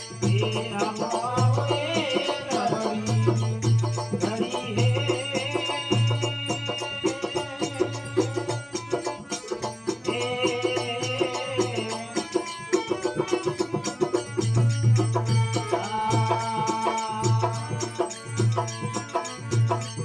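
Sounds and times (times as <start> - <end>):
busy drum rhythm: 0.0 - 20.0.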